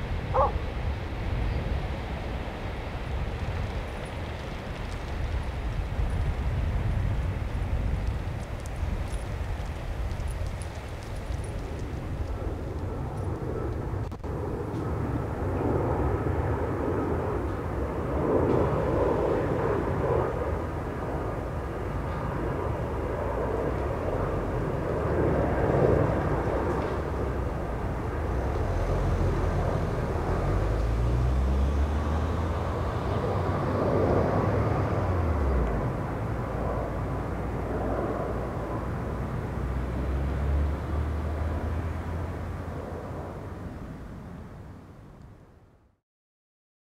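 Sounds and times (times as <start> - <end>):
jet engine rumble: 0.0 - 46.0.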